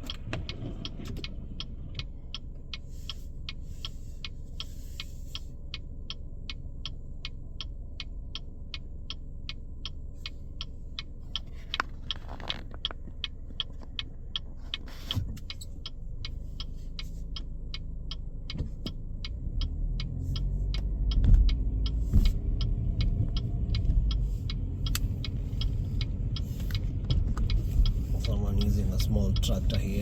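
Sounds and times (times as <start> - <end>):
engine and road rumble: 0.0 - 30.0
turn signal clicking: 0.0 - 30.0.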